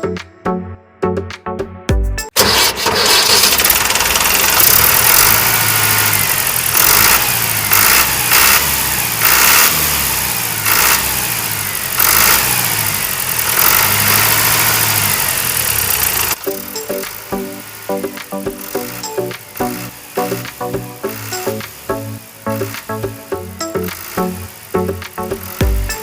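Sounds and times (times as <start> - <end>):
small engine droning: 2.4 - 26.0.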